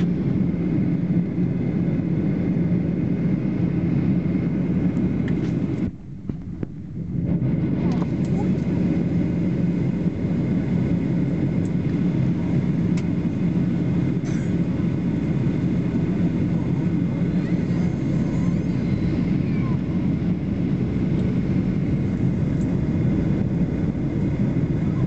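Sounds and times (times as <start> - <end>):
airliner cabin engine drone: 0.0 - 25.0.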